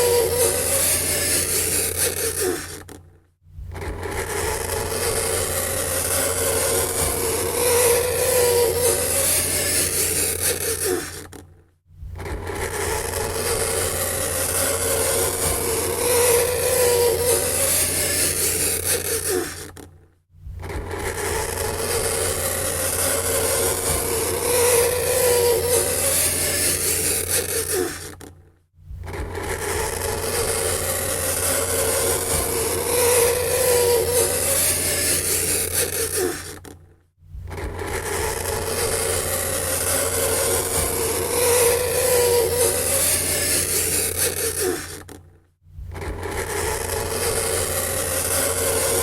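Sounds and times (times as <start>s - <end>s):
fingernails scraping chalkboard: 0.0s - 2.9s, 3.8s - 11.4s, 12.2s - 19.8s, 20.6s - 28.3s, 29.1s - 36.7s, 37.5s - 45.2s.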